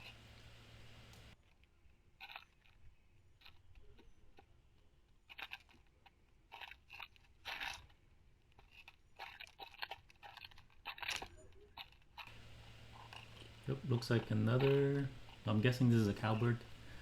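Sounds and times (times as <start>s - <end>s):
birds cracking seeds: 0.0s - 17.0s.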